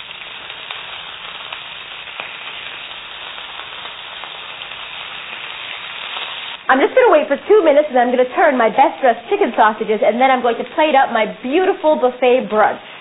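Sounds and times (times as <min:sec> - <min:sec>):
sausages sizzling in oil: 0:00.0 - 0:13.0.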